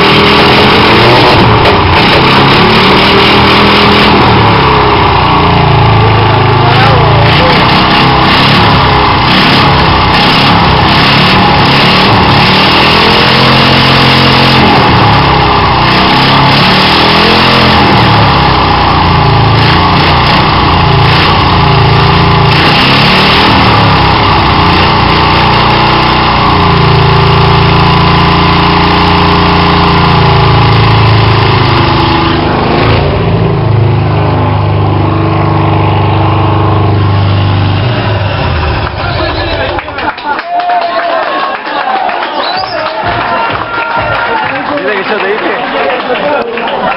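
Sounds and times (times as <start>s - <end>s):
engine revving: 0.0s - 40.0s.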